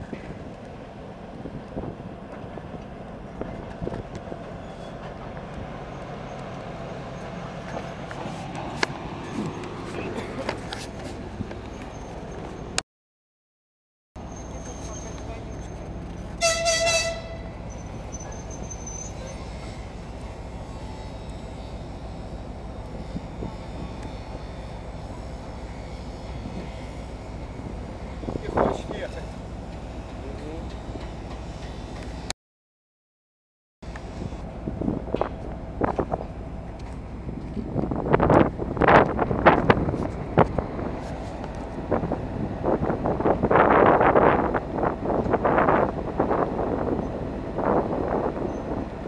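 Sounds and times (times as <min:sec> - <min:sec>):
diesel locomotive rumbling past: 0:00.0 - 0:12.8, 0:14.2 - 0:32.3, 0:33.8 - 0:49.0.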